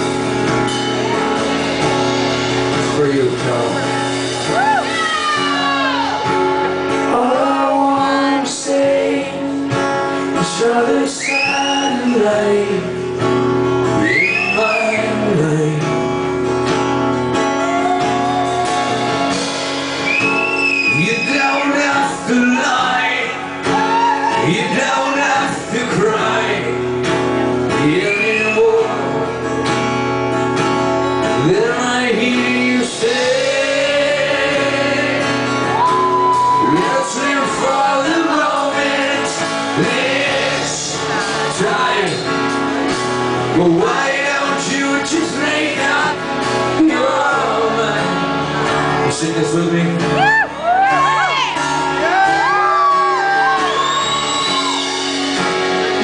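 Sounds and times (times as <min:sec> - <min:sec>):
man singing rock song: 0:00.0 - 0:16.7, 0:20.4 - 0:29.7, 0:31.2 - 0:50.8
strummed acoustic guitar: 0:00.0 - 0:56.0.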